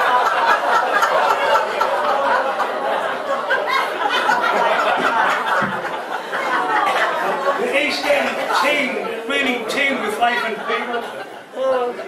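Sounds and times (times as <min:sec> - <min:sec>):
audience chattering: 0:00.0 - 0:12.0
audience laughing: 0:00.0 - 0:12.0.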